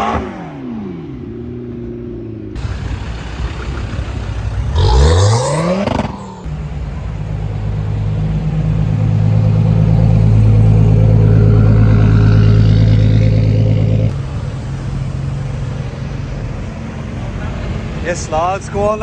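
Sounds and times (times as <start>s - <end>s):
car engine running loudly: 1.1s - 19.0s.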